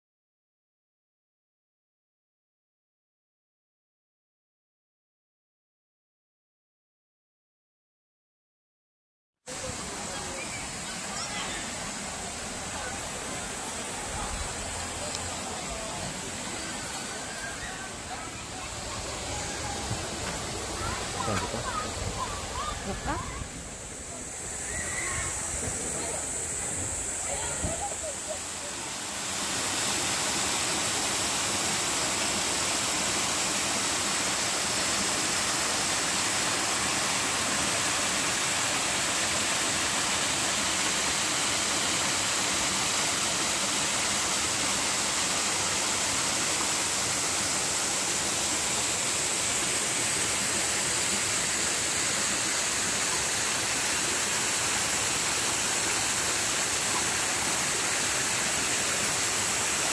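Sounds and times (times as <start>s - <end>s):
stream rushing over rocks: 9.5s - 59.9s.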